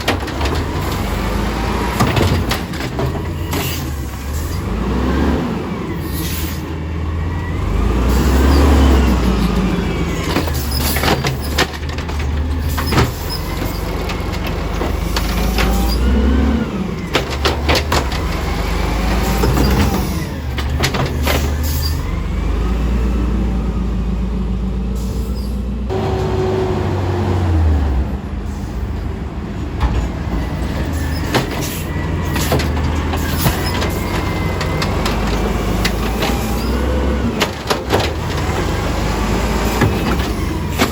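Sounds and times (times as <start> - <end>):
carts clunking and banging: 0.0 - 22.8, 25.9 - 40.9
garbage truck engine revving: 0.0 - 40.9.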